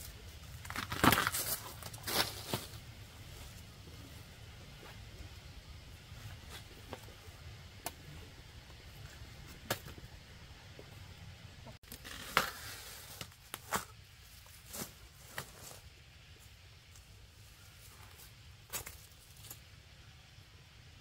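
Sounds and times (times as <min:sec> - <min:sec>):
rustle: 0:00.0 - 0:10.1, 0:11.8 - 0:20.3.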